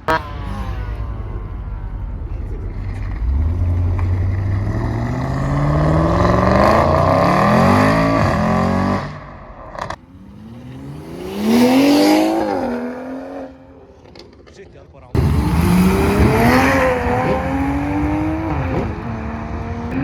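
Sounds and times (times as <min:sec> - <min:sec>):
car engine accelerating: 0:00.0 - 0:14.1, 0:15.2 - 0:20.0.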